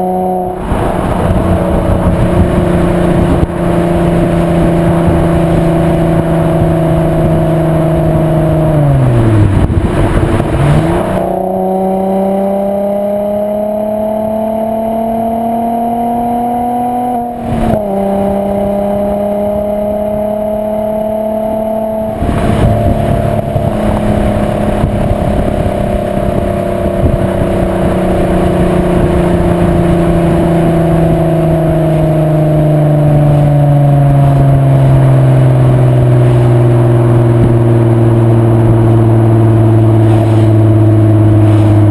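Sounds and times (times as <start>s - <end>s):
car engine revving through exhaust: 0.0s - 41.9s.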